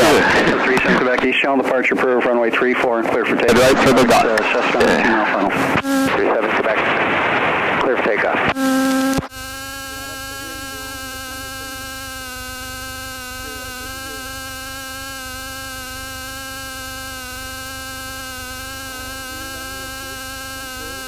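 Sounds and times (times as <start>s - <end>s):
steady buzz: 0.0s - 21.0s.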